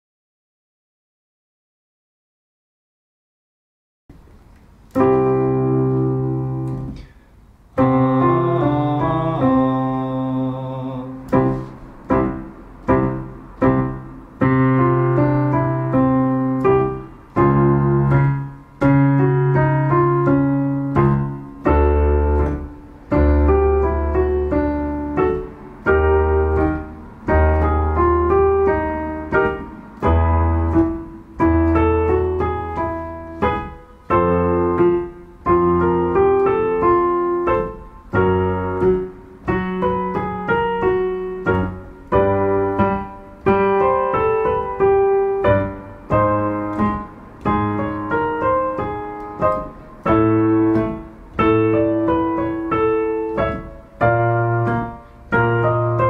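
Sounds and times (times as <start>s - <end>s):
digital piano warm-up pattern: 4.1s - 56.0s.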